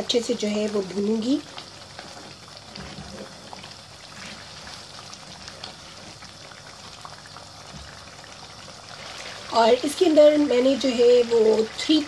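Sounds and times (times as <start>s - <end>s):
meat sizzling and bubbling in fat: 0.0s - 12.0s.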